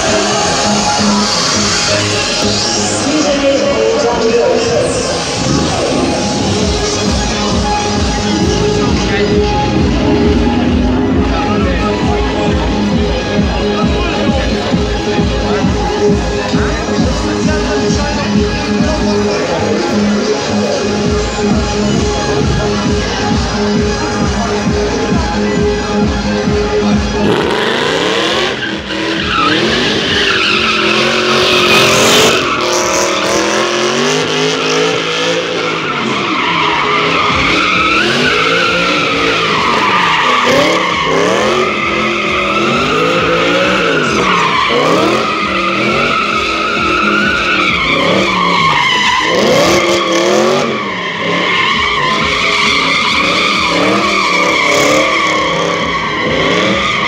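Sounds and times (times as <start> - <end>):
car engine revving: 0.0 - 57.0
tyres squealing: 0.0 - 57.0.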